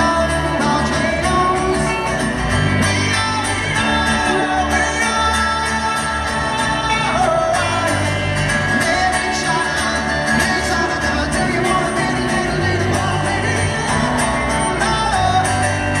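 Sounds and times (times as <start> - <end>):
live rock band with singing: 0.0 - 16.0.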